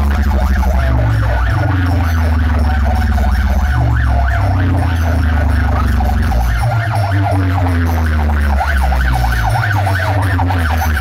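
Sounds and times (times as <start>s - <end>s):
heavy booming bass music: 0.0s - 11.0s
siren-like tone sweeping: 0.0s - 11.0s.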